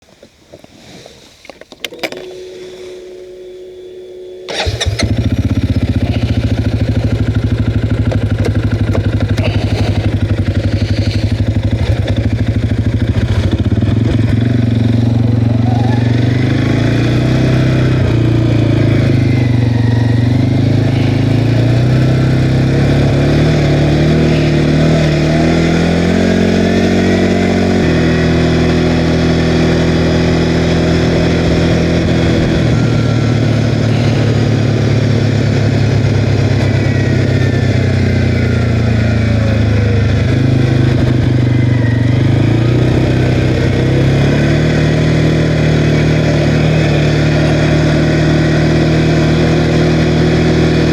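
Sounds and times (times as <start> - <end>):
quad engine running: 1.8 - 50.9.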